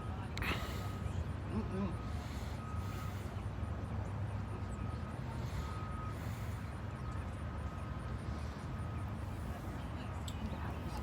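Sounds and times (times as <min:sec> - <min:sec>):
faint thin whine: 0:00.0 - 0:11.0
low engine rumble: 0:00.0 - 0:11.0.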